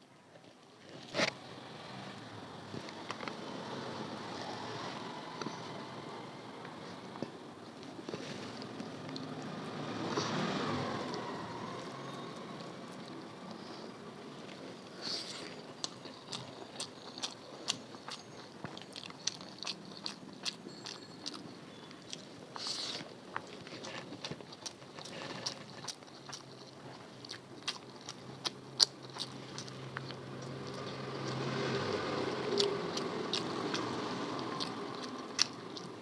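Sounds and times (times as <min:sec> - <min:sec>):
person chewing food: 0:02.2 - 0:36.0
food crunching: 0:06.6 - 0:36.0.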